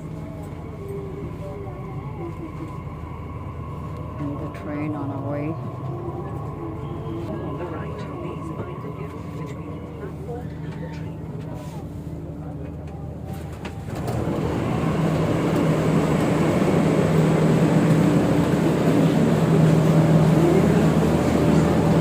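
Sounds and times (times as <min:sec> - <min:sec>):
train running hum: 0:00.0 - 0:22.0.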